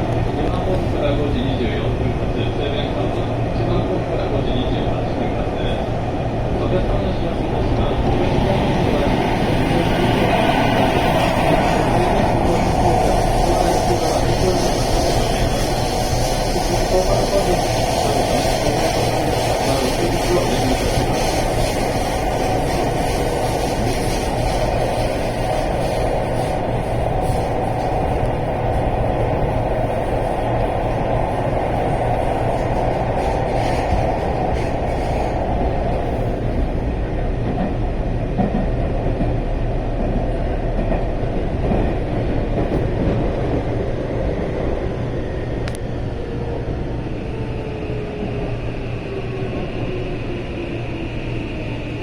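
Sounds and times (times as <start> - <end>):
train running rumble: 0.0 - 52.0.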